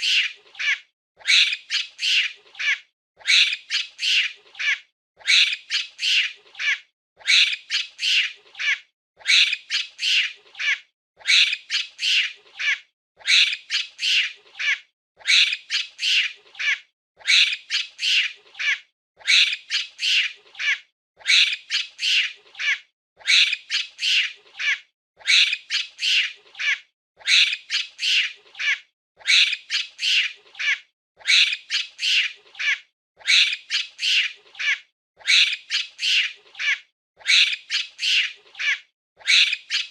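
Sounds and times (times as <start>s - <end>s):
monkey squawking cries: 0.0s - 39.9s.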